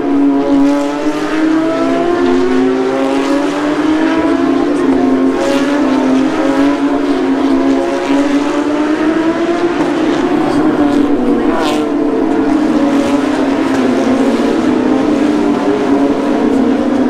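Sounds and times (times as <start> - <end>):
race cars passing at high revs: 0.0 - 17.0.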